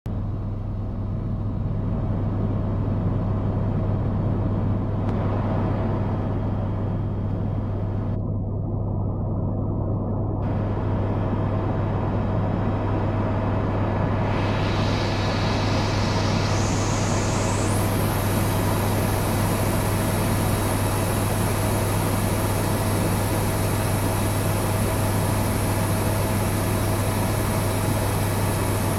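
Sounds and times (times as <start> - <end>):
helicopter engine and rotor drone: 0.2 - 8.2, 10.4 - 28.9.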